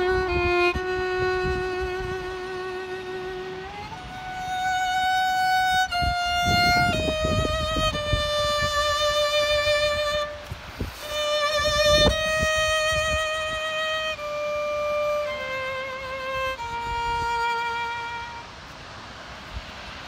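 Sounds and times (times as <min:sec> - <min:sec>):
solo violin long bowed notes: 0:00.0 - 0:20.0.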